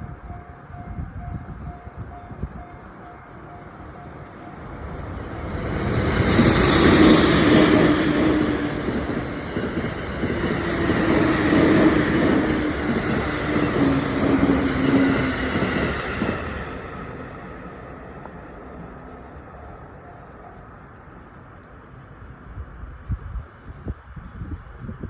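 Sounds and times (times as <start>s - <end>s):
train passing rumble: 0.0s - 25.0s.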